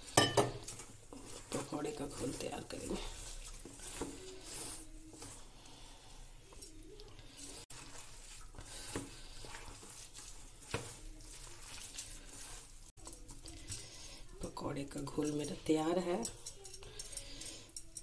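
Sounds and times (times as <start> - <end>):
batter squishing in bowl: 0.0 - 17.5.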